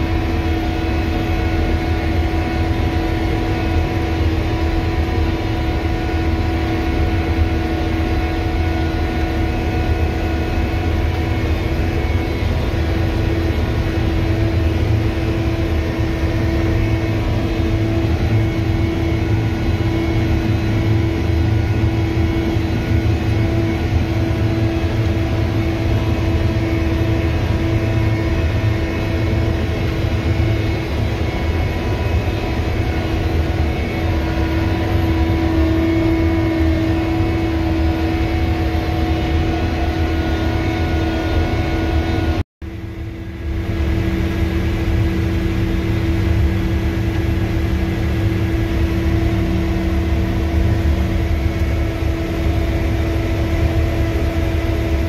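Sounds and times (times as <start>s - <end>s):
constant whine: 0.0s - 55.0s
farm machine engine drone: 0.0s - 55.0s.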